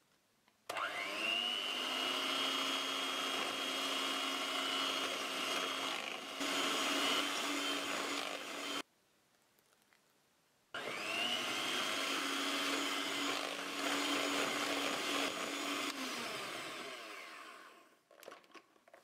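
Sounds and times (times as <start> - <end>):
electric hand mixer whining: 0.7 - 8.8, 10.8 - 18.0.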